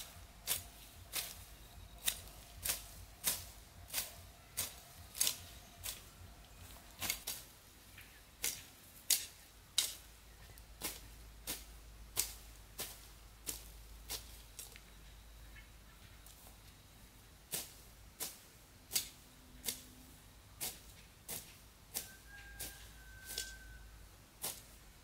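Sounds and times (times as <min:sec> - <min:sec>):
blade snipping grass: 0:00.0 - 0:07.6, 0:08.4 - 0:14.8, 0:17.5 - 0:23.8, 0:24.4 - 0:25.0.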